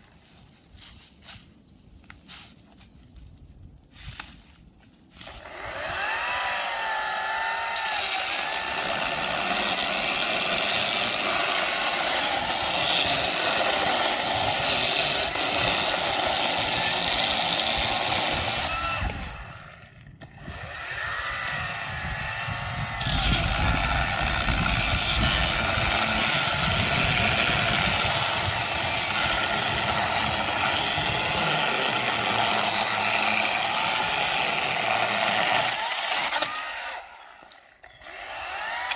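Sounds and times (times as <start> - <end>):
power saw cutting firewood: 5.2 - 38.9.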